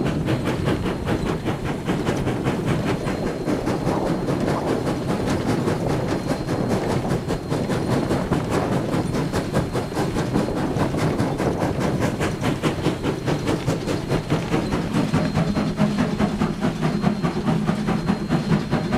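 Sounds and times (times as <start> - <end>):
steam locomotive chuffing: 0.0 - 18.9.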